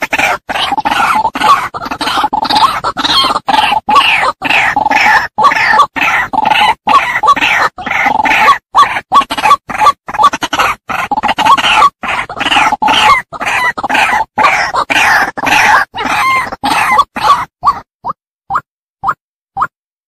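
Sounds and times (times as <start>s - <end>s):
bird harsh croaking calls: 0.0s - 17.9s.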